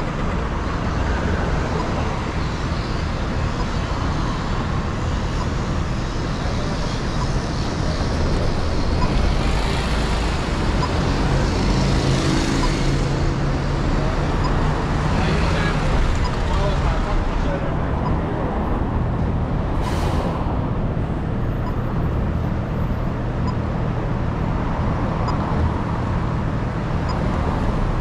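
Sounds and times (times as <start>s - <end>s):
passing cars: 0.0s - 28.0s.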